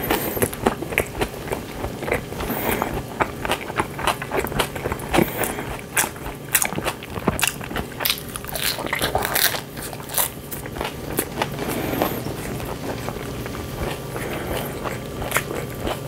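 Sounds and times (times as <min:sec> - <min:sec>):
person chewing pizza: 0:00.0 - 0:16.0.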